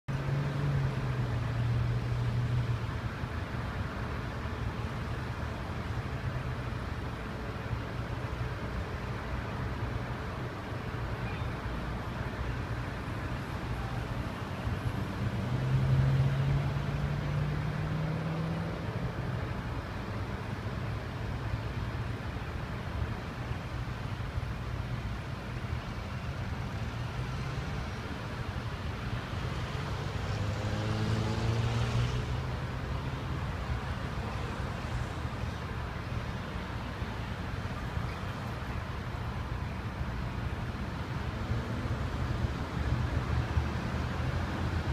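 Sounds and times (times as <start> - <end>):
road traffic hum: 0.0 - 44.9.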